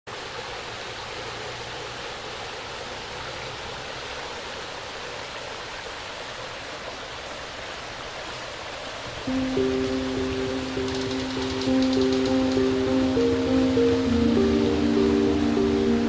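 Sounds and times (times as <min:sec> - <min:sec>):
water rushing: 0:00.1 - 0:16.0.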